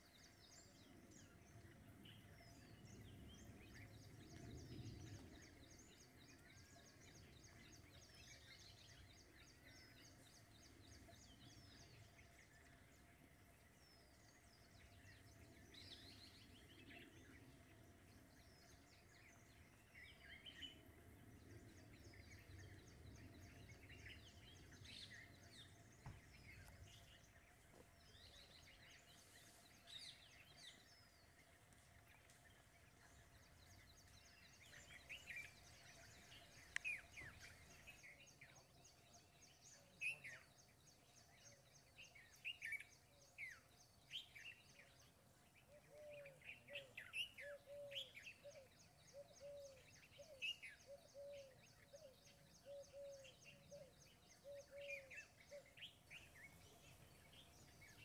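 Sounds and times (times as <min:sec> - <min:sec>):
small birds chirping: 0:00.0 - 0:58.0
steady low background hiss: 0:00.0 - 0:58.0.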